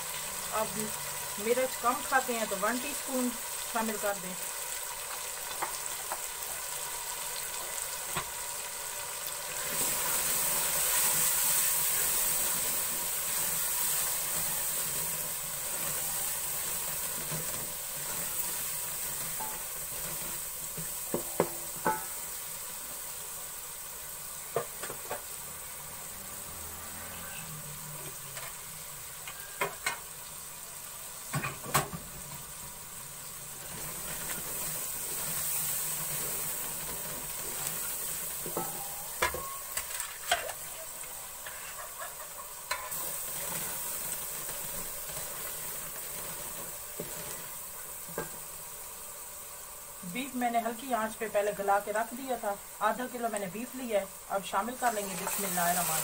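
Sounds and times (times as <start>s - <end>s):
spices sizzling in hot oil: 0.0s - 56.0s.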